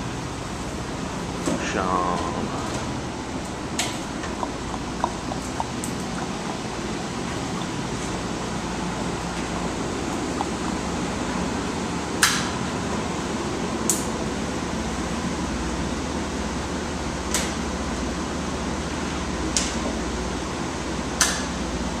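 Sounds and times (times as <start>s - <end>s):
engine and ventilation drone: 0.0s - 22.0s.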